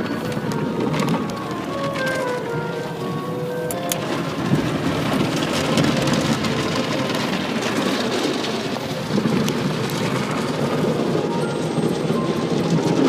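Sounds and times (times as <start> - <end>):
car wash water jets drumming: 0.0 - 13.0.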